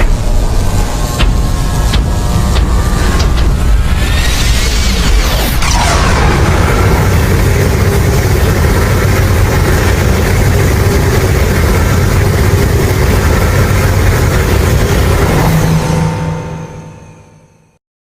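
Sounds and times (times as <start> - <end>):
loud low monster rumble: 0.0 - 17.2.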